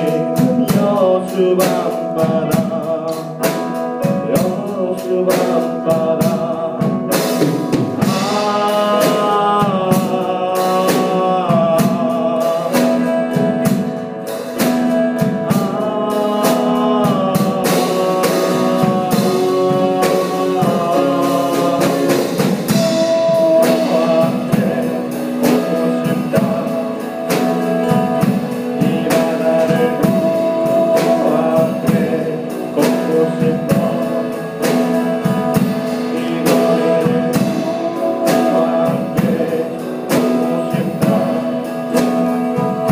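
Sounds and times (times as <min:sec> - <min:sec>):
band playing a song: 0:00.0 - 0:42.9
person singing: 0:00.0 - 0:42.9.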